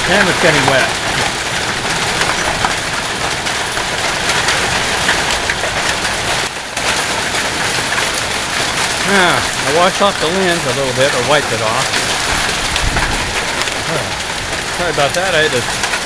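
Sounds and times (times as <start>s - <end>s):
hail clattering on wooden deck: 0.0s - 16.0s
rain downpour hiss: 0.0s - 16.0s.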